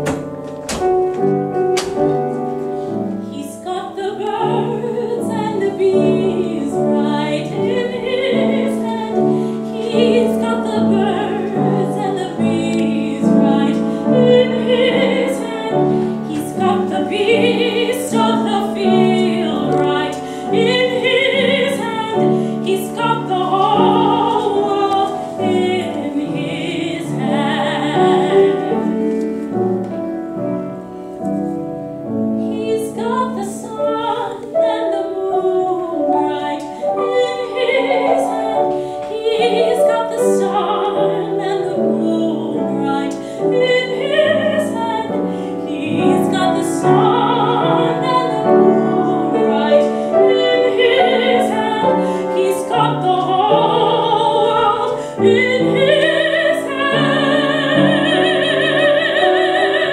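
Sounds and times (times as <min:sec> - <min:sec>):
instrumental accompaniment: 0:00.0 - 0:59.9
operatic soprano singing: 0:03.2 - 0:29.7, 0:32.4 - 0:59.9.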